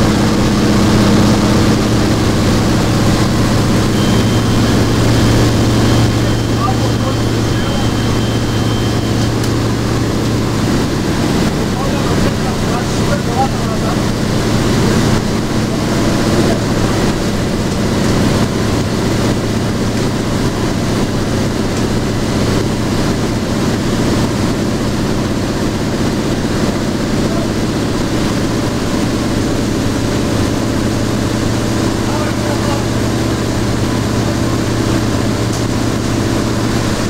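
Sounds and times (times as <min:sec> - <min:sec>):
radial aircraft engine droning: 0:00.0 - 0:37.0.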